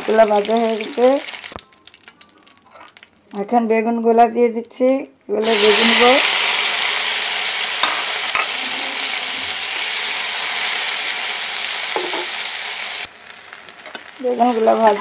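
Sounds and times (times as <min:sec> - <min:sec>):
eggplant sizzling in hot oil: 0:00.0 - 0:03.0, 0:05.4 - 0:15.0.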